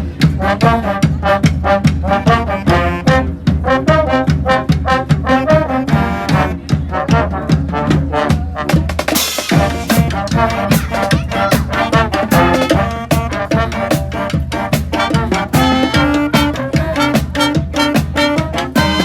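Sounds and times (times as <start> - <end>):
brass band playing upbeat tune: 0.0 - 19.0.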